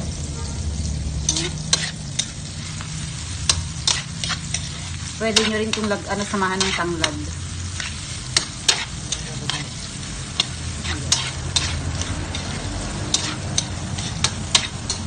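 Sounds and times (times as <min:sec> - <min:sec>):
onions sizzling in oil: 0:00.0 - 0:15.0
spatula scraping metal wok: 0:01.1 - 0:15.0.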